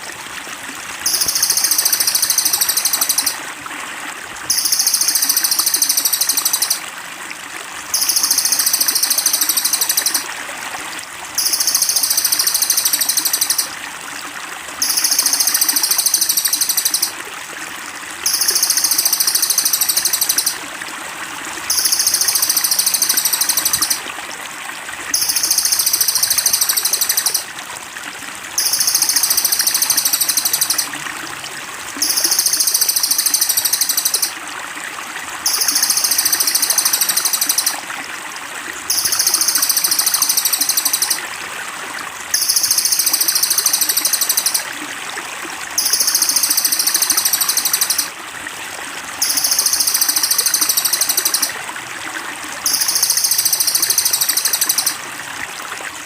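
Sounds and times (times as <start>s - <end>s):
running water trickle: 0.0s - 56.0s.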